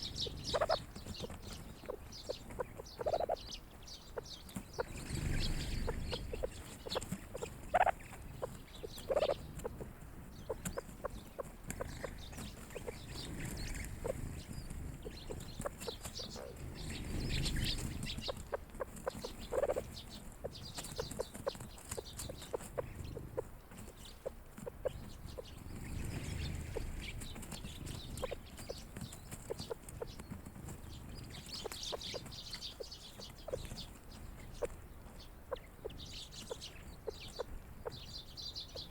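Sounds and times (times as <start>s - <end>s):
small ticks: 4.2s - 38.0s.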